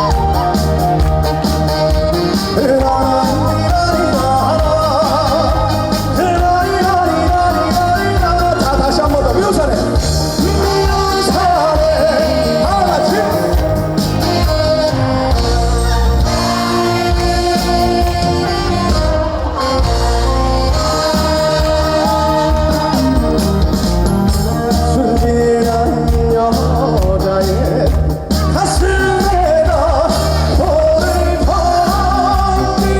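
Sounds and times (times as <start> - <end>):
live band playing trot song: 0.0 - 32.9
person singing: 0.0 - 32.9.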